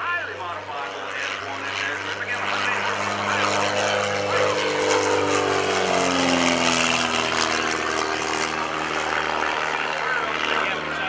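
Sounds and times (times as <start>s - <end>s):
biplane engine and propeller: 0.0s - 11.0s.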